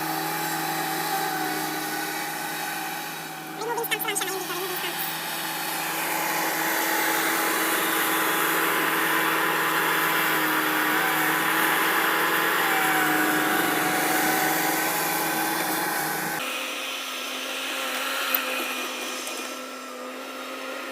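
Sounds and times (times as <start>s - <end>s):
skid steer engine running: 0.0s - 4.2s, 5.0s - 20.9s.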